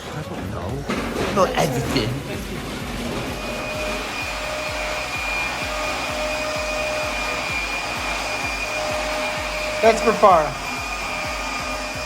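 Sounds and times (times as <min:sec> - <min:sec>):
electric fan whirring: 0:00.0 - 0:12.0.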